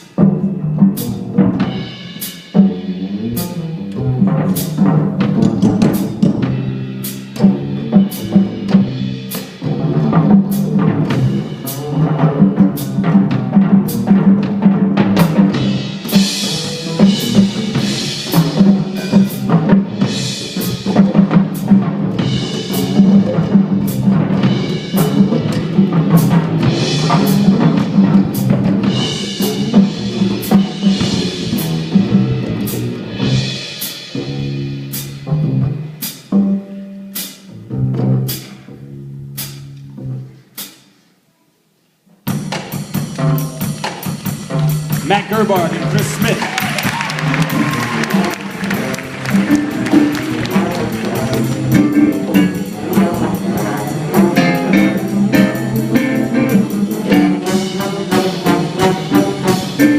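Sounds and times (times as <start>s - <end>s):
drum kit and cymbal hits: 0.0s - 38.7s, 39.4s - 39.8s, 40.6s - 41.0s, 42.2s - 59.9s
jazz big band playing: 0.0s - 40.8s, 42.2s - 59.9s.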